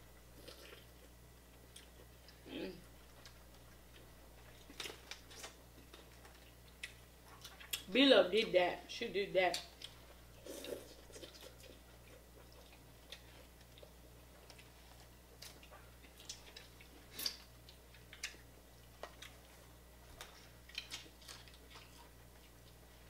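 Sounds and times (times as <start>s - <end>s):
chewing: 0.4s - 2.4s, 3.0s - 7.9s, 9.8s - 22.8s.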